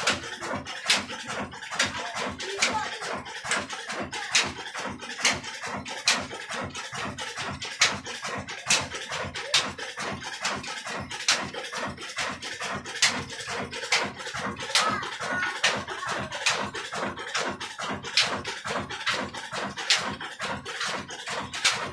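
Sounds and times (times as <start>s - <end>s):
diesel engine clattering: 0.0s - 21.9s
sharp engine knock: 0.0s - 21.9s.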